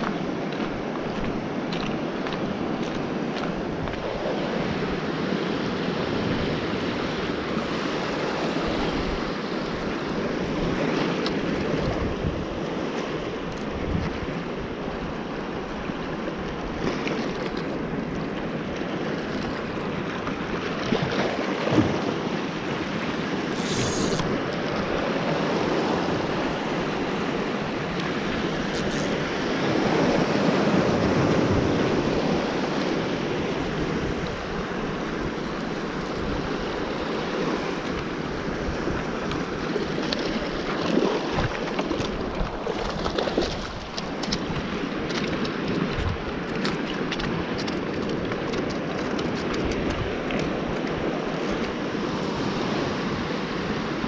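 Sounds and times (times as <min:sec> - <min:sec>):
waves breaking over rocks: 0:00.0 - 0:54.0
wind buffeting microphone: 0:00.0 - 0:54.0.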